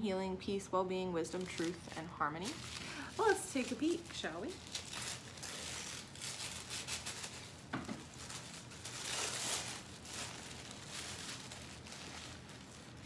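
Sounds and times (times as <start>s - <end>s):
wrapping rustling and crinkling: 1.1s - 13.0s.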